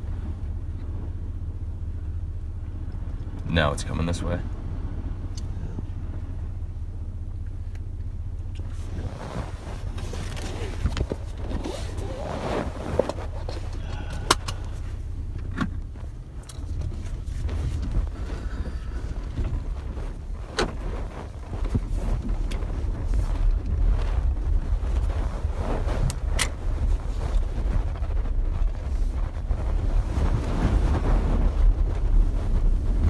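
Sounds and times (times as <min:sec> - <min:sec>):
gusty wind buffeting microphone: 0:00.0 - 0:33.0.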